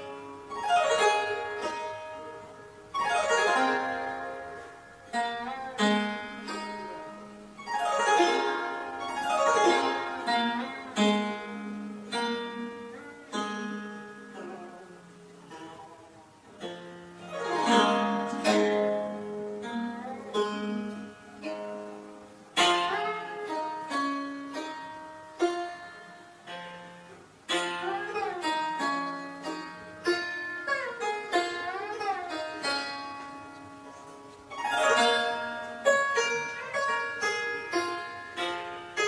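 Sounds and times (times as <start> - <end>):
plucked zither: 0.0 - 39.0.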